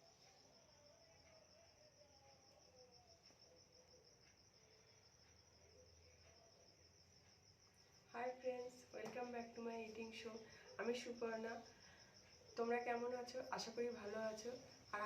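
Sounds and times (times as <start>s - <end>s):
faint cricket chirping: 0.0s - 15.0s.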